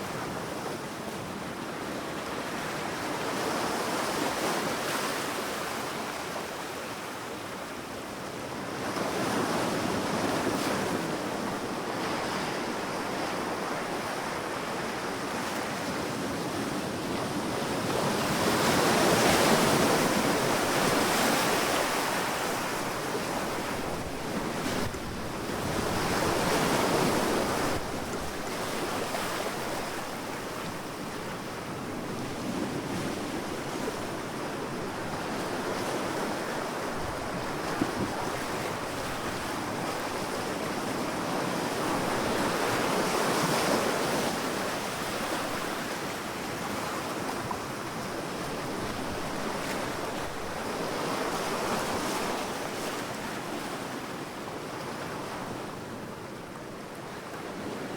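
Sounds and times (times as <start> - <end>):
wind: 0.0 - 57.9.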